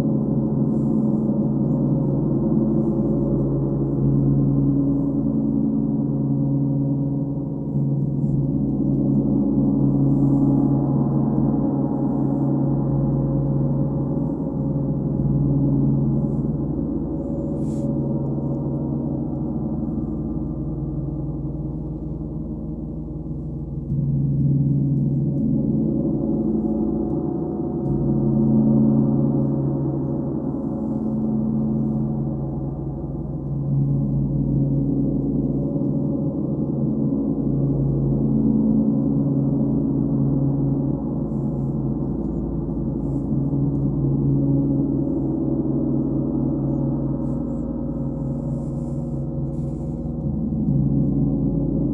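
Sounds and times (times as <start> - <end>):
gong humming with mallets: 0.0 - 51.9.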